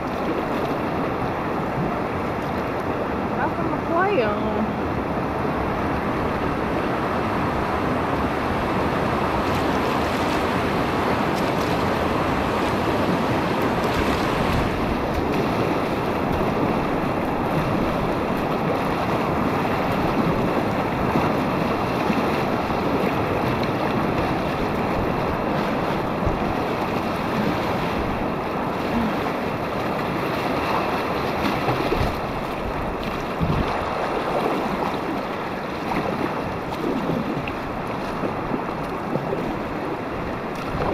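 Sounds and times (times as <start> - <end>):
whitewater rushing around kayak: 0.0 - 40.9.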